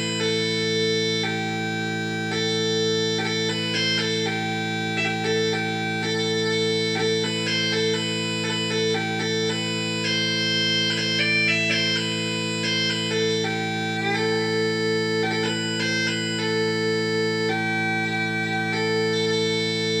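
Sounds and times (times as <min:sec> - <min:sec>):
bagpipes playing: 0:00.0 - 0:20.0.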